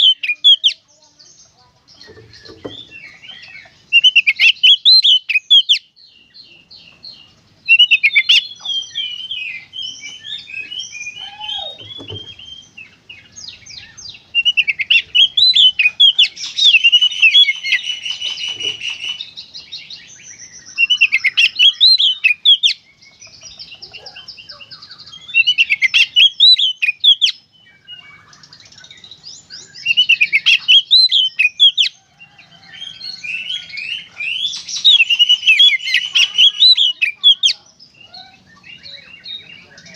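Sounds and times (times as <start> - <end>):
bird whistles and chattering trills: 0.0 - 0.8, 2.0 - 5.8, 7.7 - 19.4, 20.1 - 32.0, 32.8 - 39.9.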